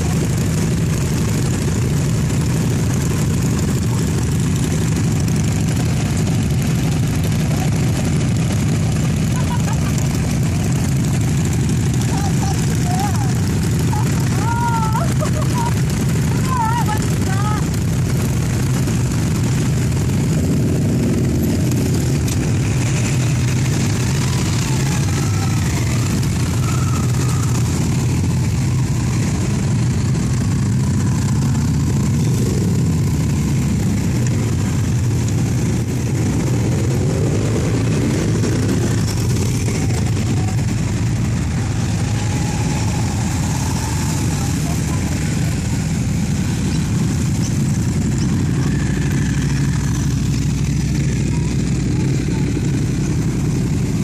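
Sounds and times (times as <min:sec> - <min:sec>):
motorcycle engine revving: 0:00.0 - 0:54.0
motorcycles riding past: 0:00.0 - 0:54.0.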